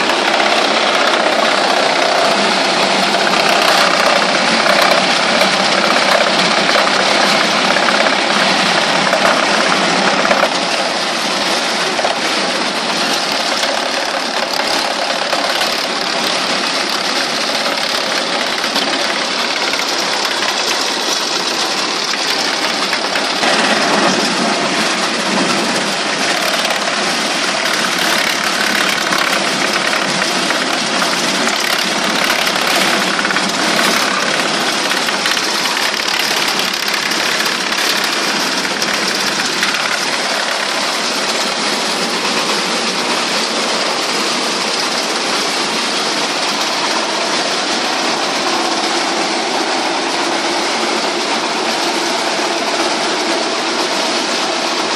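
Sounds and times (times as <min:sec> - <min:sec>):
wood chipper running: 0:00.0 - 0:54.9.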